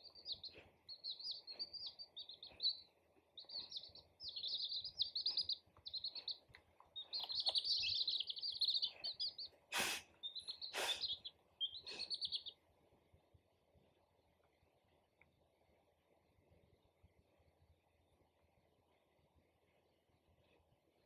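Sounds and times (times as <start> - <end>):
baby chicks peeping: 0.0 - 21.0.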